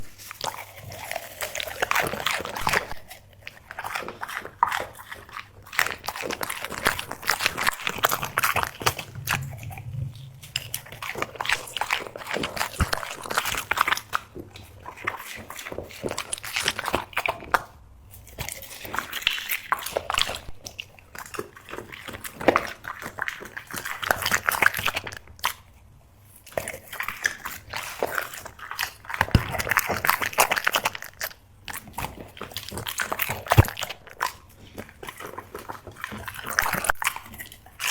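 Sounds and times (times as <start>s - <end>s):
dog chewing and crunching food: 0.0s - 37.9s.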